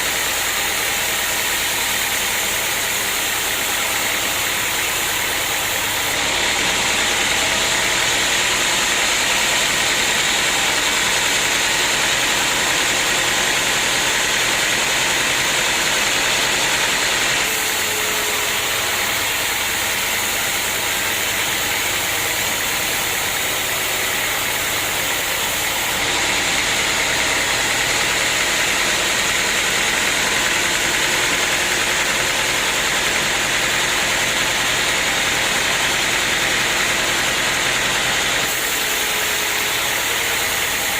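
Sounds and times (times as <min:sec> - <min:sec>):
loud machinery hiss: 0:00.0 - 0:40.9
sawmill machinery drone: 0:00.0 - 0:40.9.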